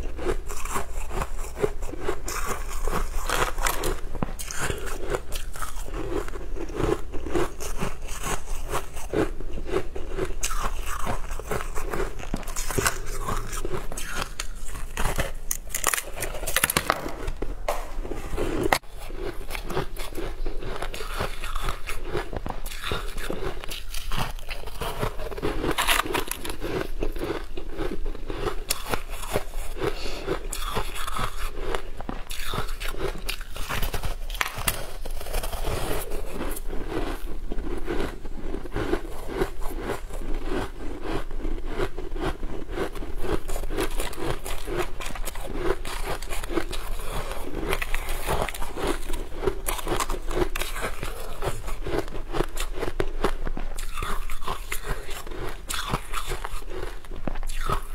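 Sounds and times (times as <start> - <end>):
crunchy food chewing: 0.0 - 57.9.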